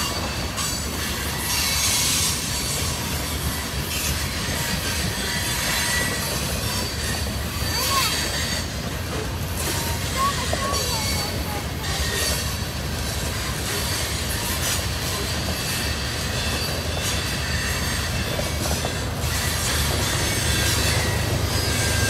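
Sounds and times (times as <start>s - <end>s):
freight train wheels rumbling: 0.0s - 22.0s
high wheel squeal: 0.0s - 22.0s.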